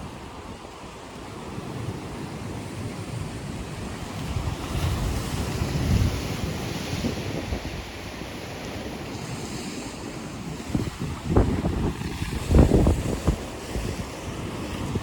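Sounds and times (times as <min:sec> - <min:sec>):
waves washing against shore: 0:00.0 - 0:15.0
wind buffeting microphone: 0:00.0 - 0:15.0.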